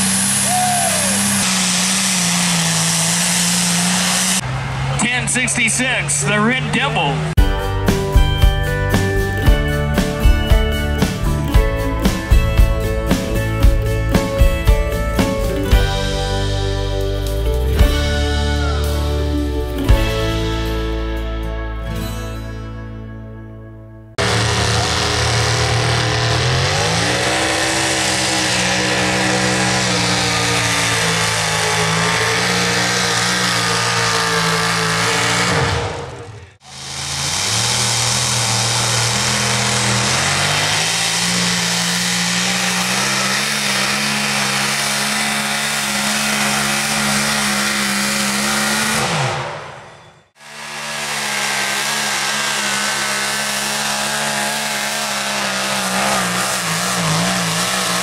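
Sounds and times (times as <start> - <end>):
truck engine at full throttle: 0.0 - 21.5, 24.1 - 58.0.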